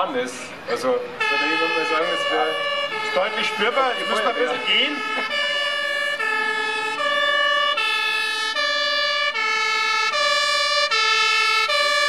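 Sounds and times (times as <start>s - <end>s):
two-tone fire engine siren: 0.7s - 12.0s.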